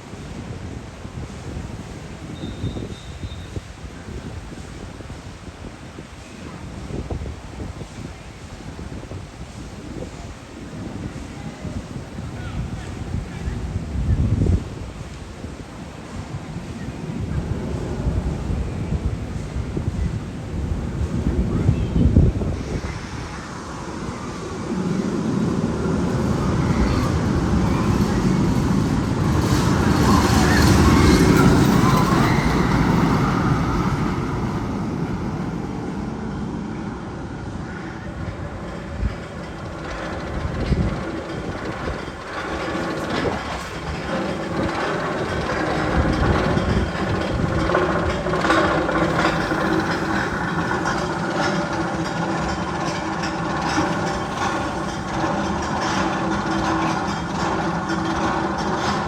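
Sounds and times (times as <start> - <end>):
roller coaster rumbling roar: 0.1 - 59.0.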